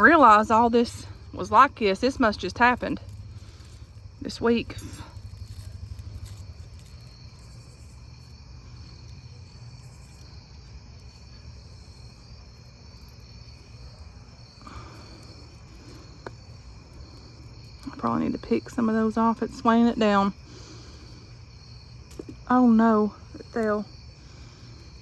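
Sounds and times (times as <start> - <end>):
faint insect chorus: 0.0 - 25.0.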